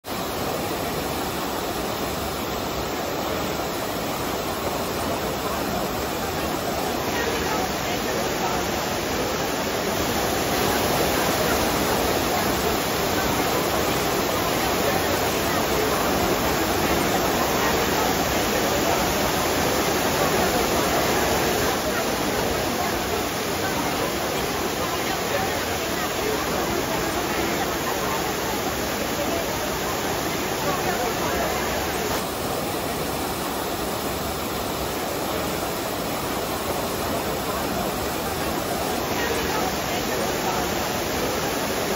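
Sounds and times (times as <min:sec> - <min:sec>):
fountain water rushing: 0:00.0 - 0:41.9.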